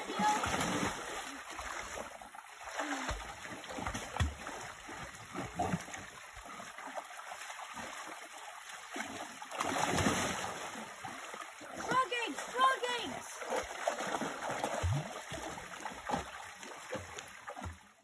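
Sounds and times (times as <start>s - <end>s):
creek water trickling: 0.0s - 18.0s
dogs splashing in water: 0.0s - 18.0s.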